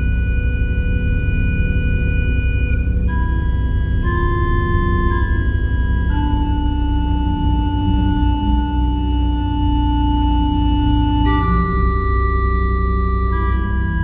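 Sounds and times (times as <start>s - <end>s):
pipe organ sustained chords: 0.0s - 14.0s.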